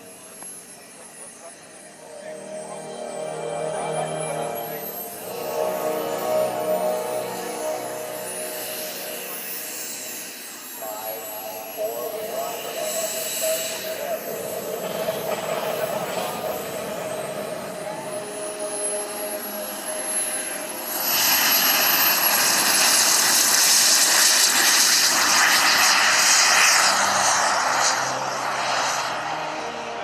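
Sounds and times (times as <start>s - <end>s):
model jet turbine whine: 0.0s - 30.0s
turbine rush: 0.0s - 30.0s.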